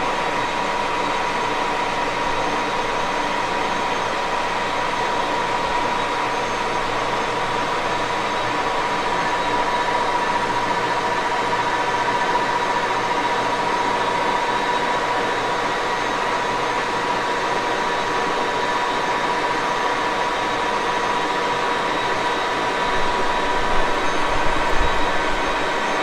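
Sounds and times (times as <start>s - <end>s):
lathe gearbox whine: 0.0s - 26.0s.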